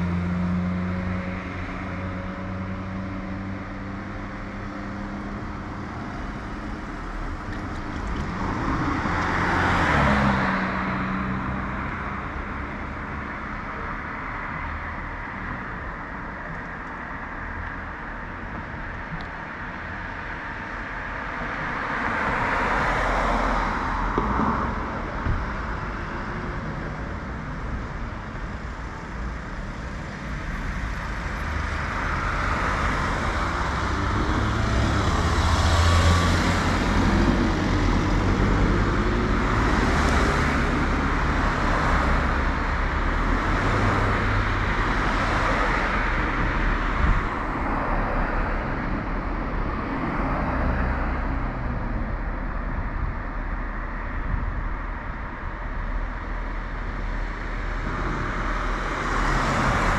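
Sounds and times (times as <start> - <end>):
cars passing close by: 0.0 - 59.9
road noise: 0.0 - 59.9.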